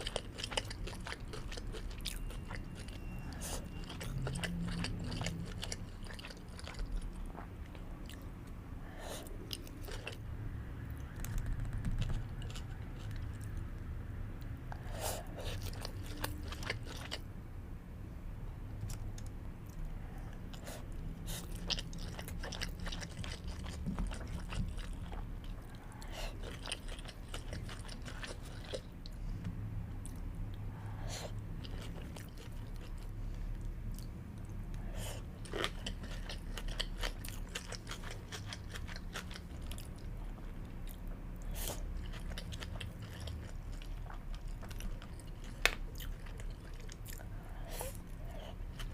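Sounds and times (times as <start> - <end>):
chewing and biting food: 0.0 - 8.6, 9.2 - 10.3, 10.9 - 13.7, 14.7 - 17.3, 18.8 - 29.2, 29.9 - 48.9
steady low hum: 0.0 - 48.9.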